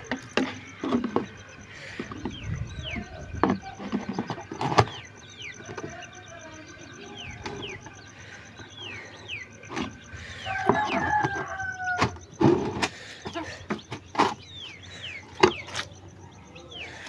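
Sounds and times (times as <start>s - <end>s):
chickens calling: 0.0s - 17.0s
chicks peeping: 0.0s - 17.0s.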